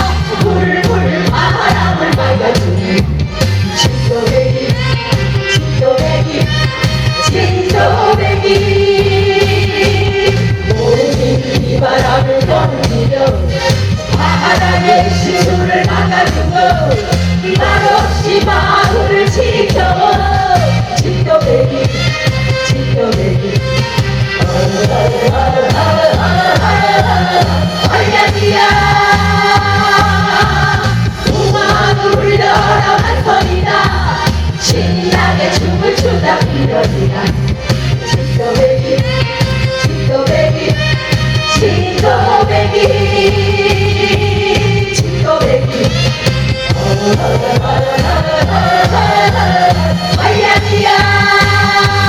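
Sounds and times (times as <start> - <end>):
people singing: 0.0 - 3.1, 4.0 - 4.9, 7.2 - 21.9, 24.4 - 39.2, 39.9 - 52.0
live band music: 0.0 - 52.0
repeating bass line: 0.0 - 52.0.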